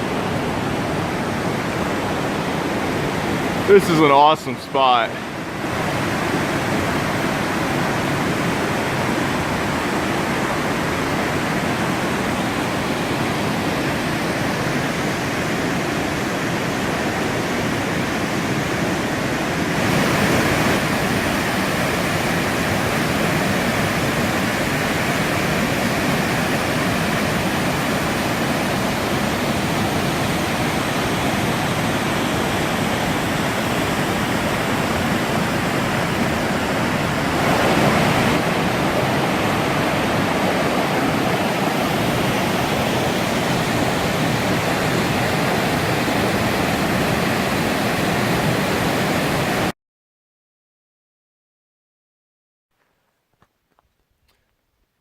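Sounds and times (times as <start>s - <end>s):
waterfall roaring: 0.0s - 49.7s.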